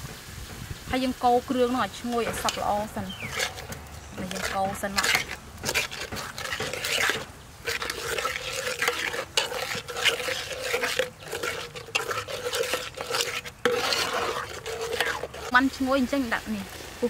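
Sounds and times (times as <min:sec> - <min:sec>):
paste frying in oil: 0:00.7 - 0:17.0
metal ladle scraping a pot: 0:01.5 - 0:16.8.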